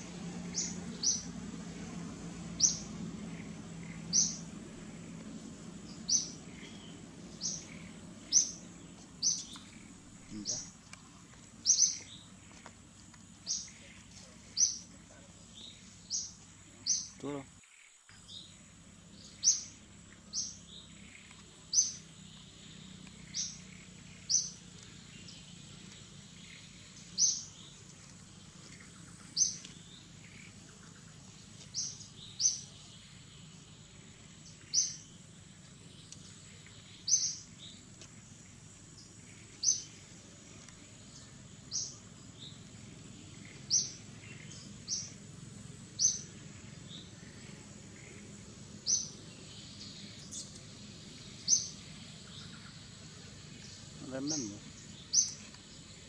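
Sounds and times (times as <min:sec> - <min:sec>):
bird chirping: 0:00.0 - 0:12.7, 0:13.4 - 0:56.0.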